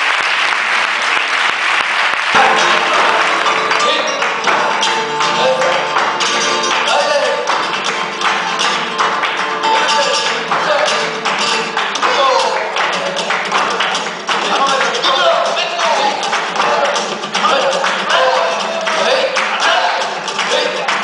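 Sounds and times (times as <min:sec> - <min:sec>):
audience applause: 0:00.0 - 0:21.0
live flamenco music: 0:00.0 - 0:21.0
sharp percussive strikes: 0:02.3 - 0:21.0.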